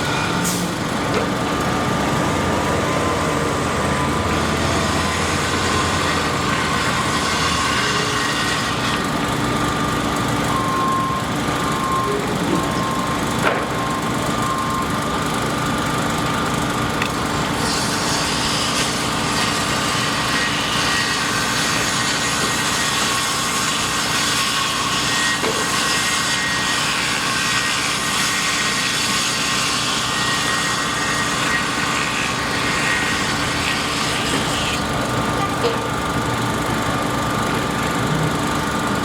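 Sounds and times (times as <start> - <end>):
construction machinery engine running: 0.0 - 39.0.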